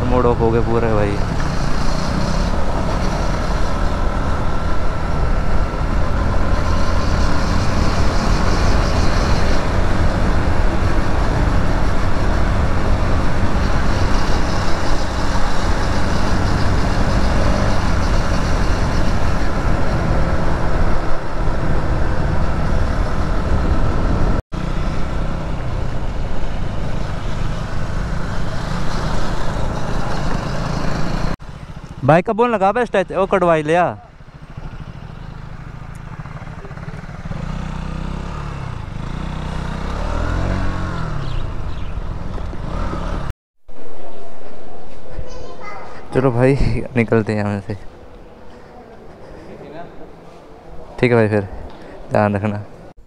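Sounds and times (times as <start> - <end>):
motor vehicle road noise: 0.0 - 53.0.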